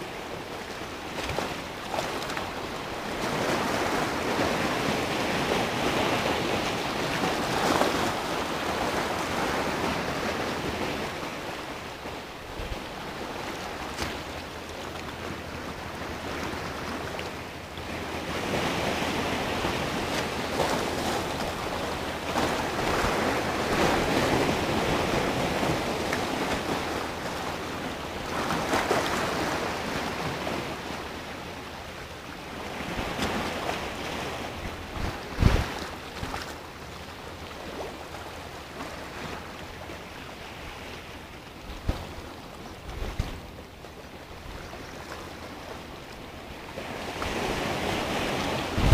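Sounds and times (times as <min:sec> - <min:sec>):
waves breaking over rocks: 0:00.0 - 0:48.9.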